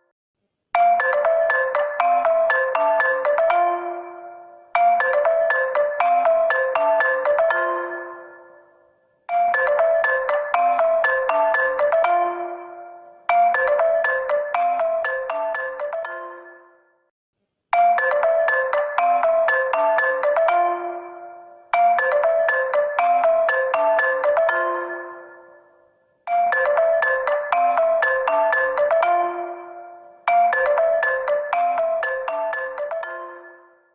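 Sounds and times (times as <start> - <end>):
smartphone ringtone: 0.8 - 17.1, 17.8 - 33.9.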